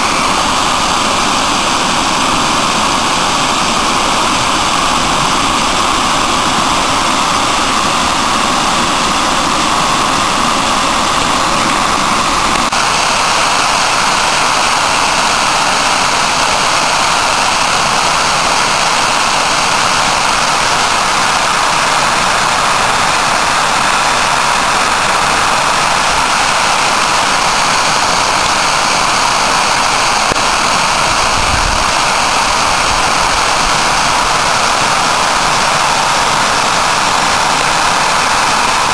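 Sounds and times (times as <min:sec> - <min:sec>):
water rushing over dam: 0:00.0 - 0:38.9.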